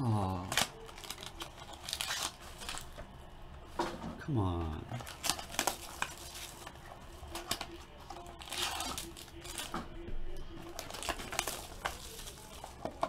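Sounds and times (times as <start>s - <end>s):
faint music: 0.0s - 13.0s
plastic wrapping crinkling: 0.2s - 3.2s, 4.8s - 10.0s, 10.6s - 13.0s.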